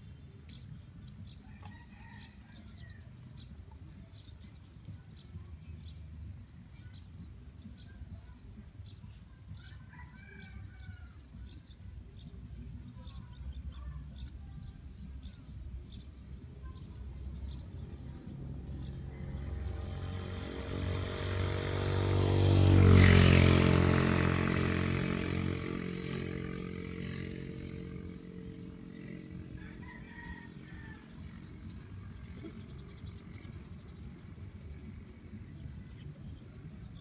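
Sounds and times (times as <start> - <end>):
vehicle engine passing by: 0.0 - 37.0.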